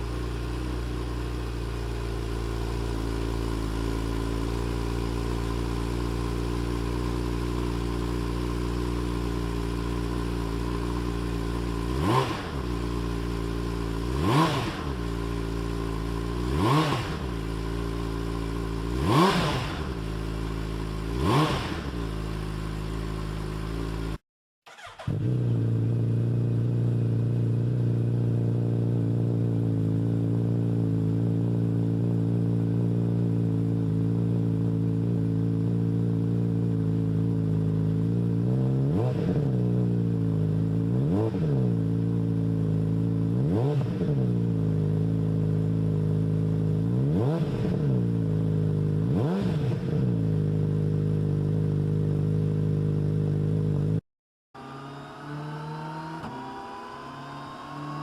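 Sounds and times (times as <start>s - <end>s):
motorcycle engine idling and revving: 0.0s - 54.0s, 54.6s - 58.0s.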